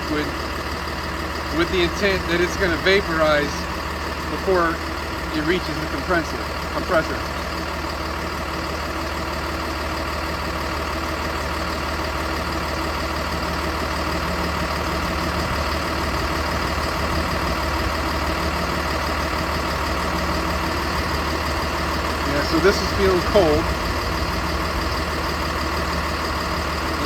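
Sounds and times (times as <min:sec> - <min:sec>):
bus engine idling: 0:00.0 - 0:27.0.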